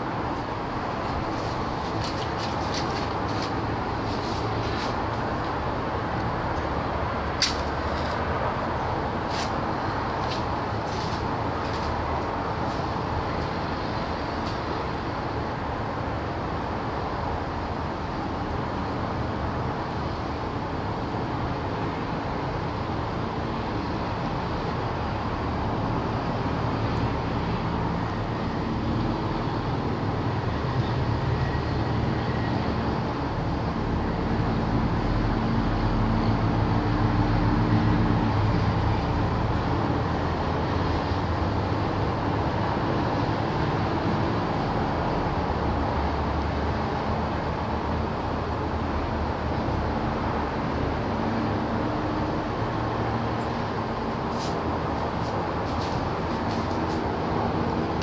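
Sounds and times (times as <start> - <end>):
city traffic drone: 0.0 - 58.0.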